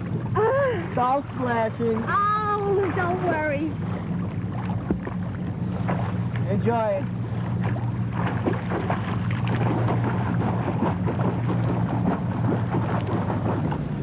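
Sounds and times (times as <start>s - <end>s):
steady low hum: 0.0s - 14.0s
water splashing: 0.0s - 14.0s.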